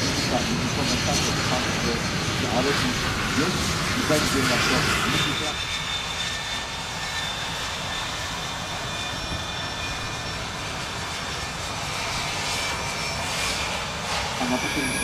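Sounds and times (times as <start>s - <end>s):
high engine whine: 0.0s - 15.0s
jet engines taxiing: 0.0s - 15.0s.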